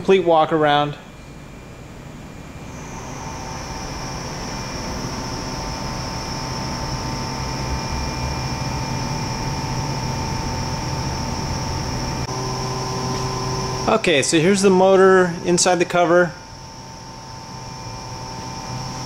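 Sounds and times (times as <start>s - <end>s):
high machine whine: 0.0s - 19.0s
machine droning hum: 0.0s - 19.0s.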